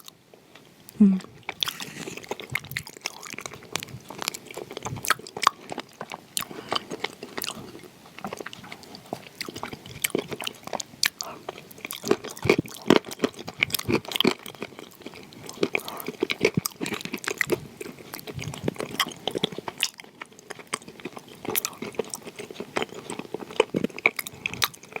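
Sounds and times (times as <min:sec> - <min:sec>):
wet chewing crunches: 0:00.0 - 0:25.0.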